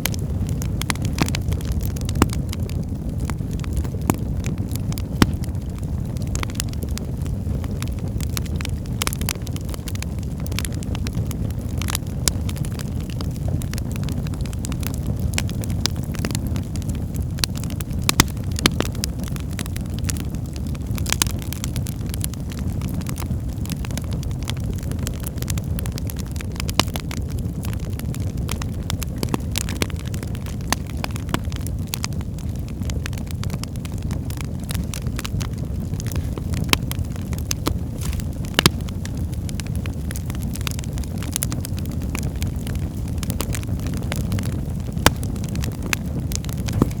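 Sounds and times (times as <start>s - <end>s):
fire flames rumbling: 0.0s - 47.0s
wood fire crackling and popping: 0.0s - 47.0s.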